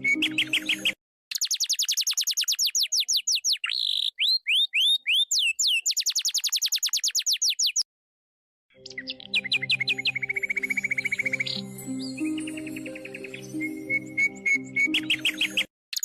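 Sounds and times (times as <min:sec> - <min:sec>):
rapid bird-like chirping: 0:00.0 - 0:07.9, 0:08.7 - 0:16.0.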